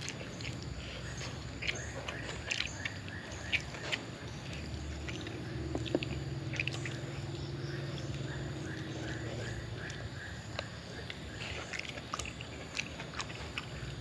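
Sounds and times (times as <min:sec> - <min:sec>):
person chewing and biting: 0:00.0 - 0:14.0
steady low hum: 0:00.0 - 0:14.0.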